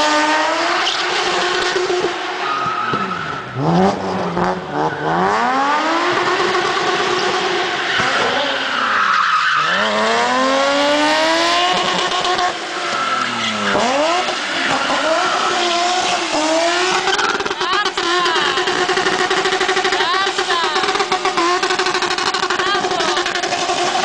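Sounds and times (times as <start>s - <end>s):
car engine at high revs: 0.0s - 24.0s
spinning tyres squealing: 0.0s - 24.0s.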